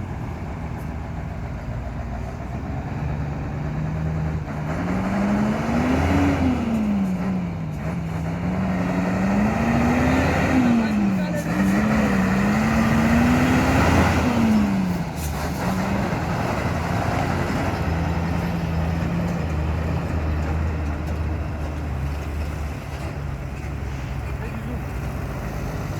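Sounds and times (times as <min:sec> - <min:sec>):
truck diesel engine running: 0:00.0 - 0:25.9.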